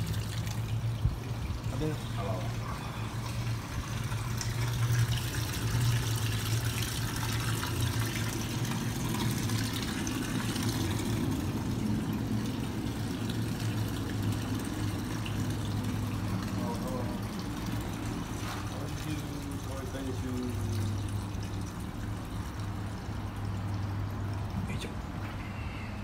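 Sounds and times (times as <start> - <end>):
water from hose on concrete: 0.0 - 26.0.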